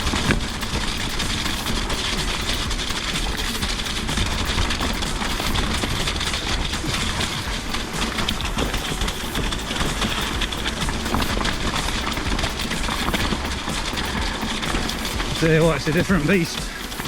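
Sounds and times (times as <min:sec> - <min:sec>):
bike rattling: 0:00.0 - 0:17.0.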